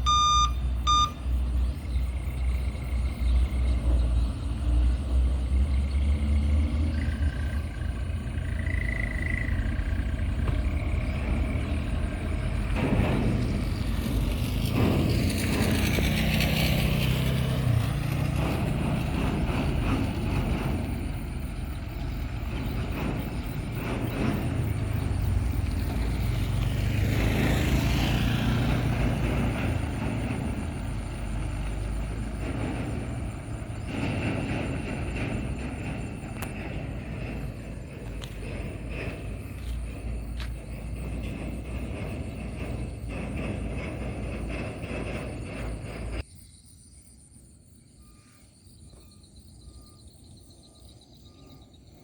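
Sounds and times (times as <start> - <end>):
truck diesel engine under load: 0.0 - 46.3.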